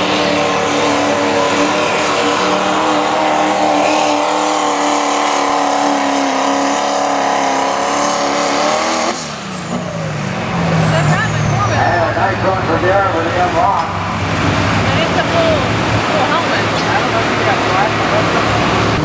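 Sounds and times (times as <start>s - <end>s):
diesel engine at full throttle: 0.0s - 19.0s
high turbo whine: 0.0s - 19.0s.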